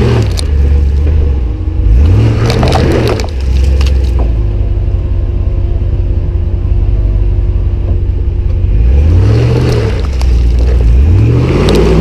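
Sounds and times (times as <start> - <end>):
vehicle engine droning and revving: 0.0 - 12.0.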